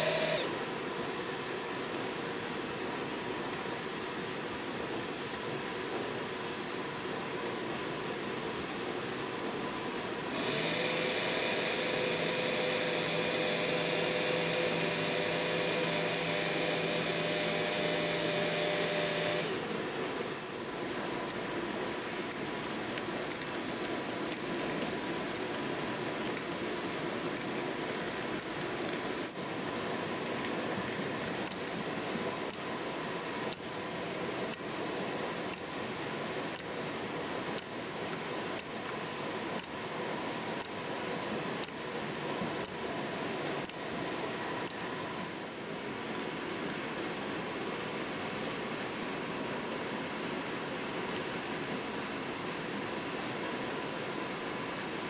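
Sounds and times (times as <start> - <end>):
electric machinery hum: 0.0 - 45.7.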